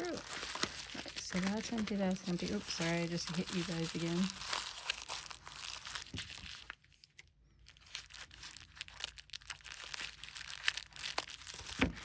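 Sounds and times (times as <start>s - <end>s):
plastic and paper crinkling: 0.0s - 12.0s.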